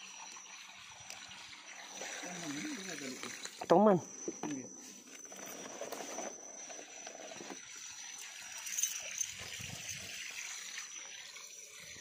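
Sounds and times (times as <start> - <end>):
steady high-pitched tone: 0.0 - 12.0.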